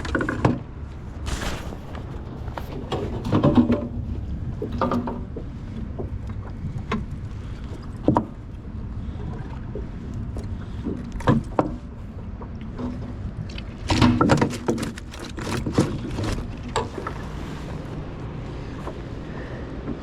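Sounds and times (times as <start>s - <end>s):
river water rumble: 0.0s - 20.0s
wind: 0.0s - 20.0s.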